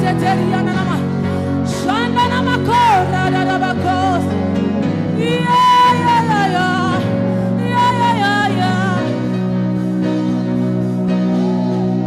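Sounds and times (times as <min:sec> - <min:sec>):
sustained instrumental chords: 0:00.0 - 0:12.0.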